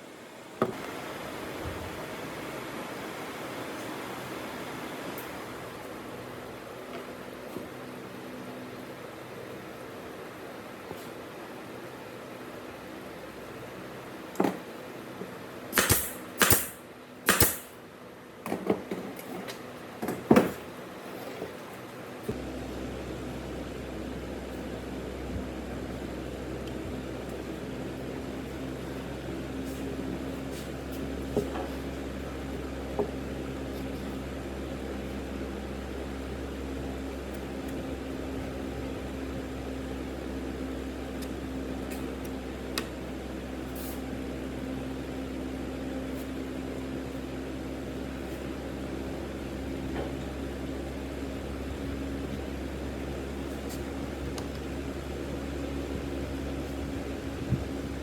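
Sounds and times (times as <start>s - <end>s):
mechanical hum: 0.0s - 58.0s.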